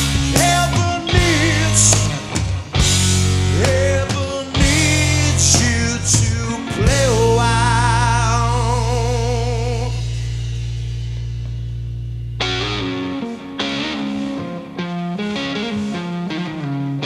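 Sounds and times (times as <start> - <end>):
blues-rock band playing: 0.0 - 17.0.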